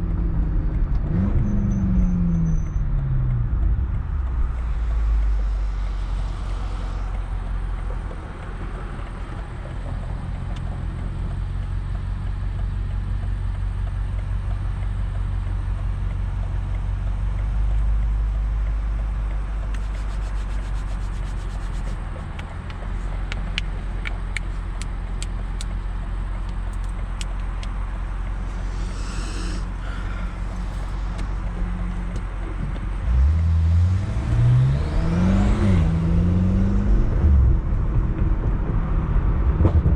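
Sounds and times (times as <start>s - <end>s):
car engine and loud exhaust: 0.0s - 39.9s.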